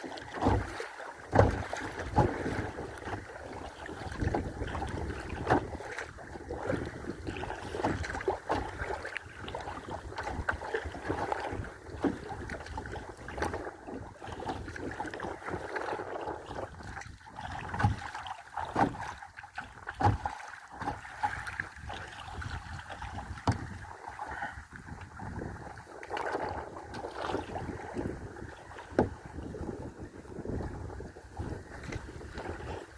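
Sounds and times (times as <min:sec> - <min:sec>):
water lapping against kayak: 0:00.0 - 0:32.9
wind rumbling on microphone: 0:00.0 - 0:32.9.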